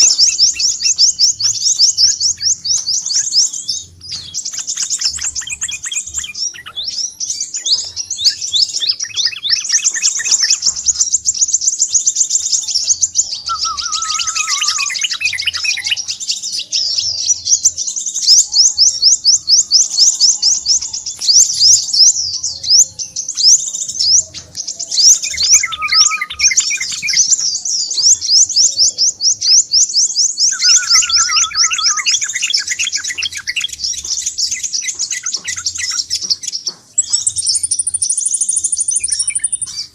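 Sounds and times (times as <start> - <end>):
bird lower chattering trills: 0.0 - 17.7, 18.3 - 39.9
bird high-pitched trills and chips: 0.0 - 39.9.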